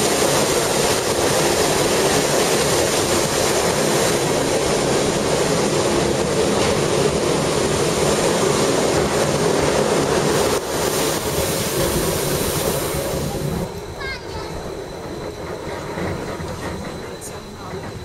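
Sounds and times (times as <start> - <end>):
train running noise on board: 0.0 - 18.0.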